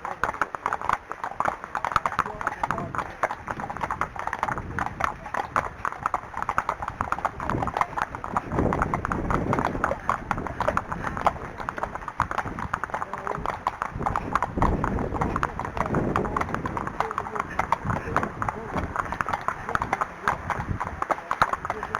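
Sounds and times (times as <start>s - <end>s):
horse hooves clip-clopping: 0.0s - 21.9s
wind buffeting microphone: 0.0s - 21.9s.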